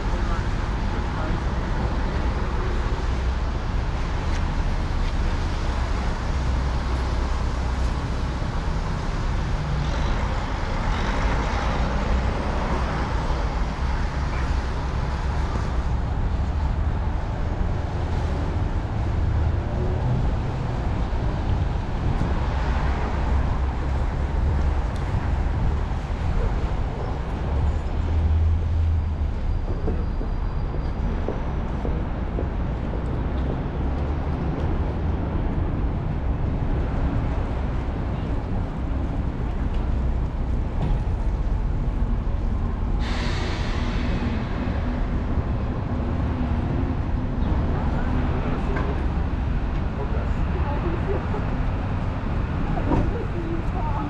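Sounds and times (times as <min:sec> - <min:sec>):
traffic engine rumble: 0:00.0 - 0:54.0
vehicles passing: 0:00.0 - 0:54.0.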